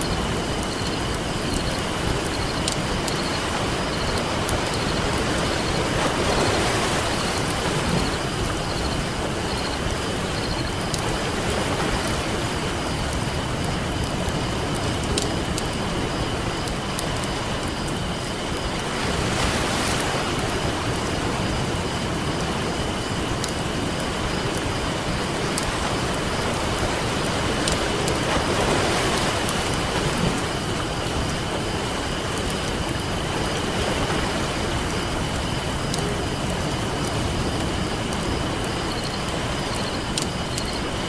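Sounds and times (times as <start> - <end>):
campfire crackling and popping: 0.0 - 18.9, 19.9 - 41.0
ocean surf washing in: 0.0 - 41.0.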